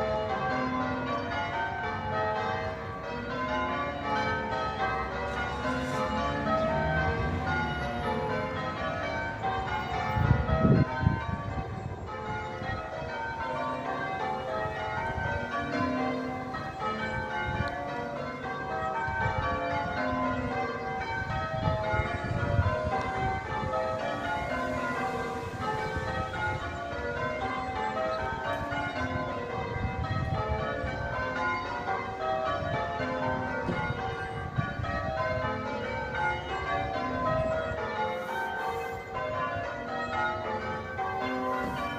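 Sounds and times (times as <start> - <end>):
church bells change ringing: 0.0 - 41.9.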